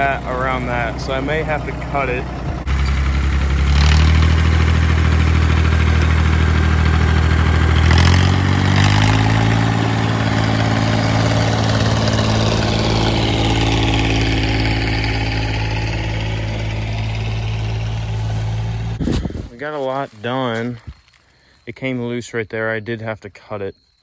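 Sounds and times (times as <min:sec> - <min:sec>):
diesel tractor engine revving: 0:00.0 - 0:20.5.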